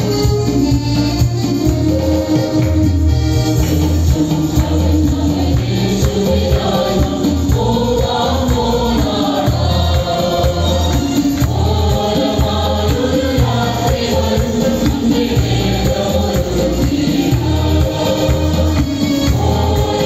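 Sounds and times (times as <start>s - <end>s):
instruments with low bass: 0.0s - 20.0s
choir singing a hymn: 1.7s - 20.0s.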